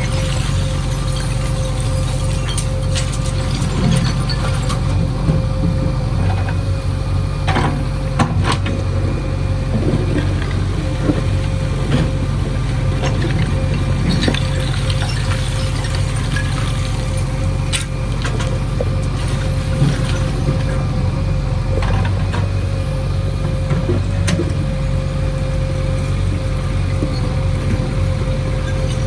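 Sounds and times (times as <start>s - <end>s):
constant whine: 0.0s - 29.0s
heavy diesel engine running: 0.0s - 29.0s.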